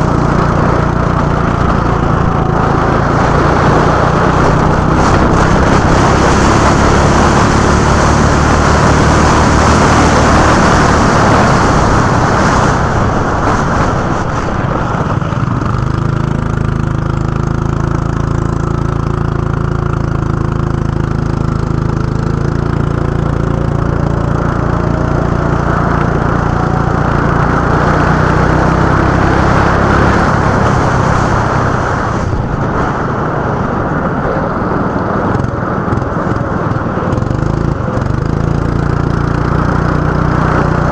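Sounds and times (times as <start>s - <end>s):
go-kart engine: 0.0s - 40.9s.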